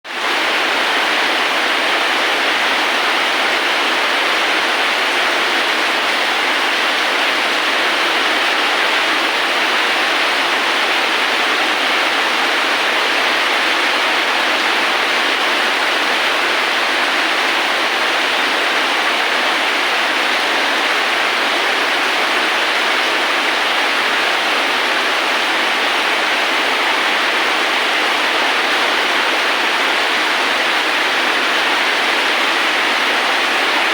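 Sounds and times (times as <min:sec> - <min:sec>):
steady rain hiss: 0:00.2 - 0:33.9.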